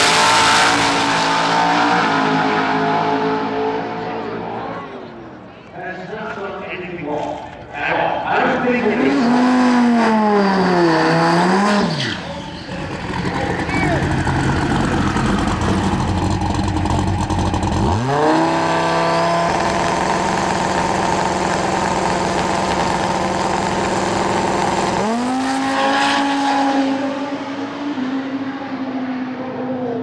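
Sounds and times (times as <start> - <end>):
racing car engines revving: 0.0 - 5.4, 8.6 - 30.0.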